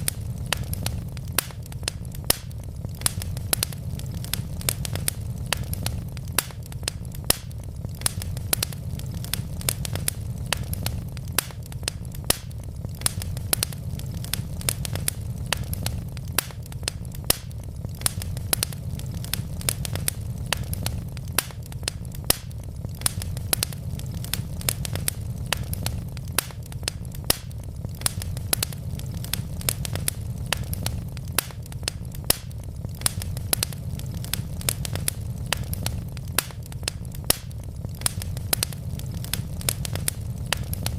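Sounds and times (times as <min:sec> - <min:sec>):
wood logs burning and crackling: 0:00.0 - 0:40.9.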